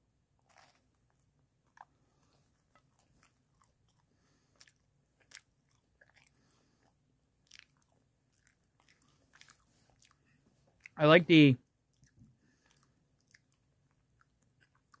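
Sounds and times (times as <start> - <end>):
person chewing pizza: 0.0 - 11.0, 11.6 - 15.0.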